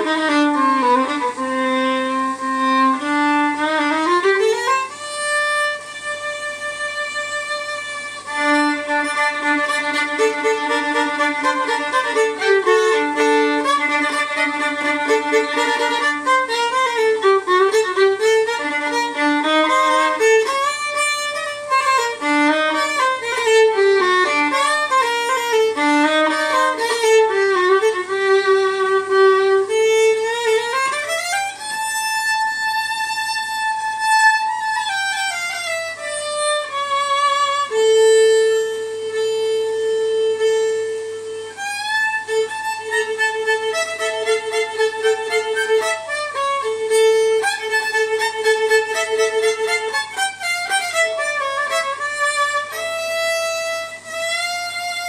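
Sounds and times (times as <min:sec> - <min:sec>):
solo fiddle playing: 0:00.0 - 0:55.0.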